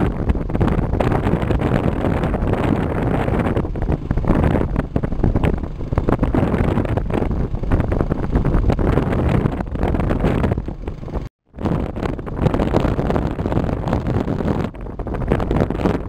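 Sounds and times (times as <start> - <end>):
vehicle running noise: 0.0 - 16.0
wind buffeting microphone: 0.0 - 16.0.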